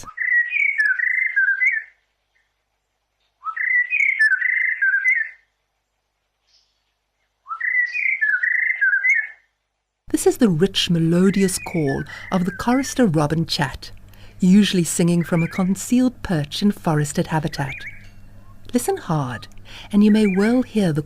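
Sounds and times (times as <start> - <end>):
bird warbling song: 0.0 - 2.6, 3.2 - 5.6, 6.4 - 9.5, 10.5 - 21.0.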